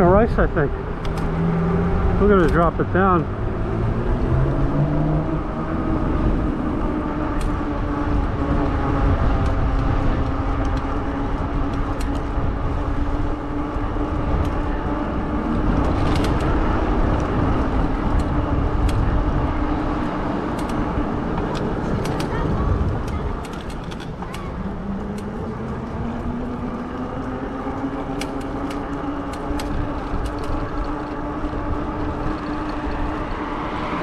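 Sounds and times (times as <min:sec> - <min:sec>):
electric bike motor hum: 0:00.0 - 0:34.0
wind rumble on microphone: 0:00.0 - 0:34.0.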